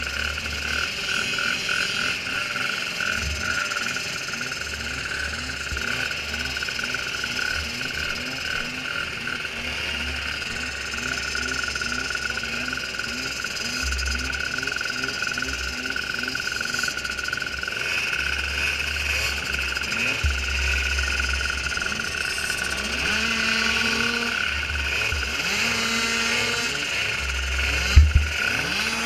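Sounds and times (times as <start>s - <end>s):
small engines idling and revving: 0.0s - 29.0s.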